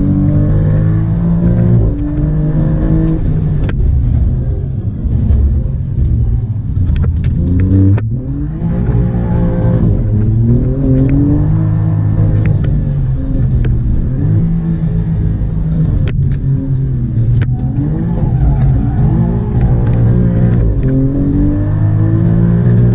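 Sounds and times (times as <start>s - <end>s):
car engine accelerating through gears: 0.0s - 22.9s.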